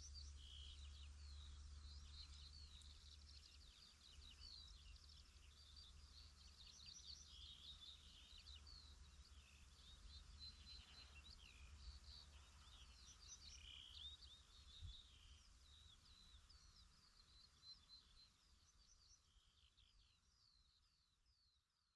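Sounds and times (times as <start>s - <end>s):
songbirds chirping and trilling: 0.0s - 21.6s.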